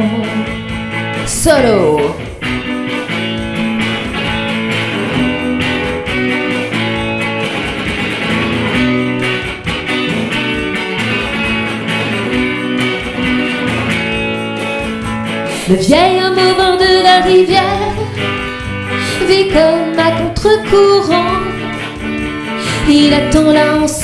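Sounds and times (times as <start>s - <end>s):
electric guitar solo: 0.0s - 24.0s.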